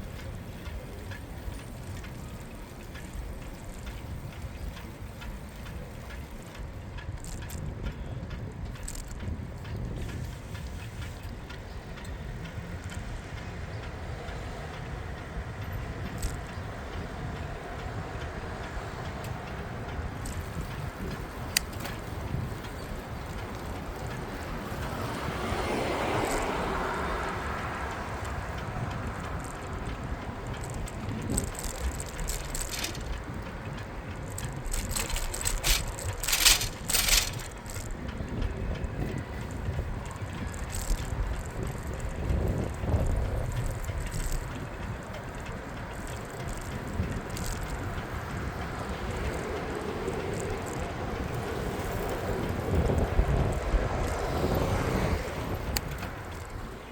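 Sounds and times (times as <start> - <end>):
bicycle ticking and clicks: 0.0 - 56.9
bicycle tyre noise: 0.0 - 56.9
wind on microphone: 0.0 - 56.9.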